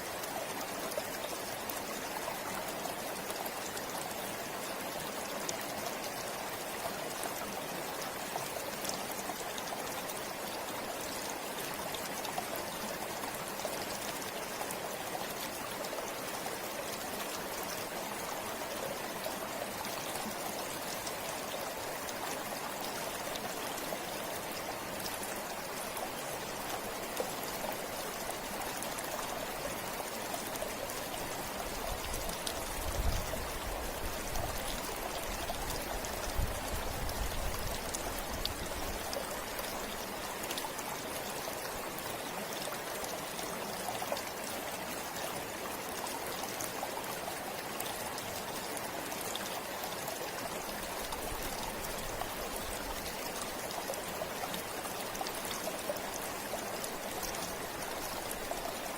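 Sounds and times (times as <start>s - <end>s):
river water flowing over stones: 0.0s - 58.9s.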